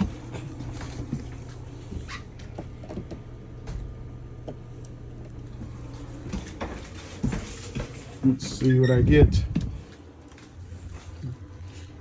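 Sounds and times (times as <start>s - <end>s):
furnace blower humming: 0.0s - 12.0s.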